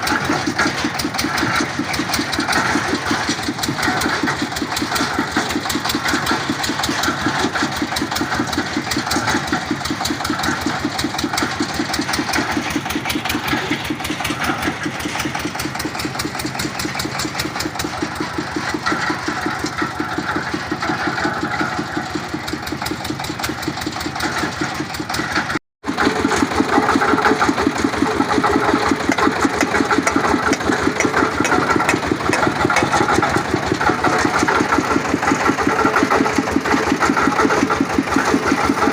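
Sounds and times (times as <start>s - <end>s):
drilling rig engine chugging: 0.0s - 38.9s.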